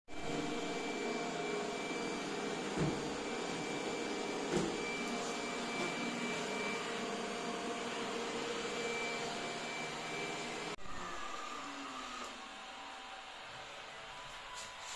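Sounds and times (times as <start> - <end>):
robot vacuum whirring: 0.2 - 14.8.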